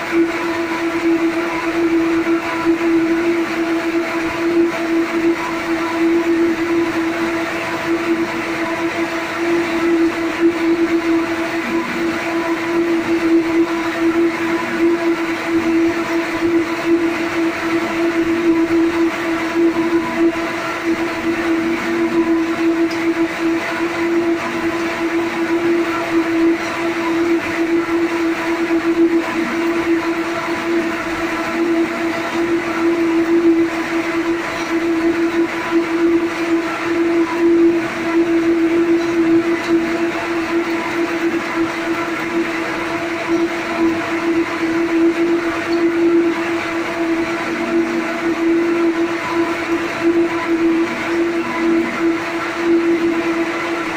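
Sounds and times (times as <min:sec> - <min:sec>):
spinning machines droning: 0:00.0 - 0:53.9.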